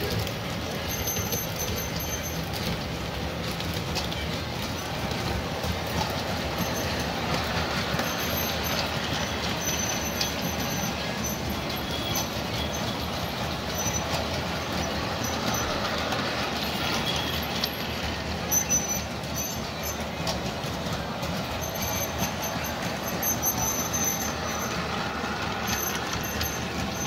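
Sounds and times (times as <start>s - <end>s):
model train wheels clattering: 0.0s - 27.0s.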